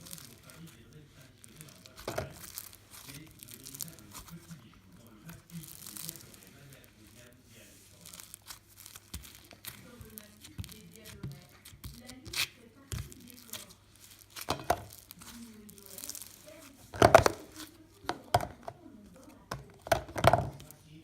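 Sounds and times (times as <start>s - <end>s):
slime kneaded by hand: 0.0s - 21.0s.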